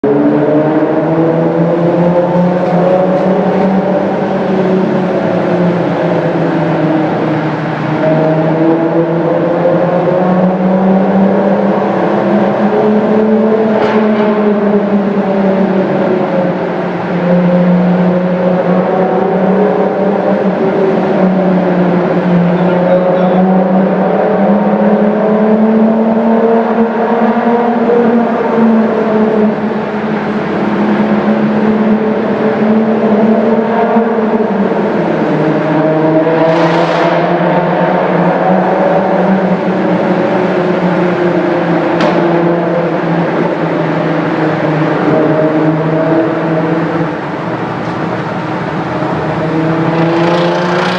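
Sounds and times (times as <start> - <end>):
car engine running in tunnel: 0.0 - 50.9.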